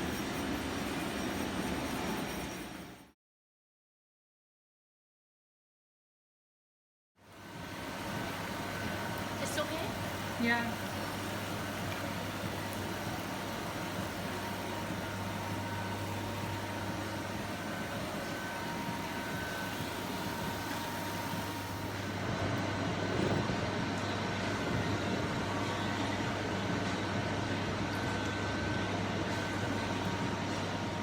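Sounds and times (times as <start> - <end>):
low mechanical hum: 0.0 - 3.2, 7.2 - 31.0.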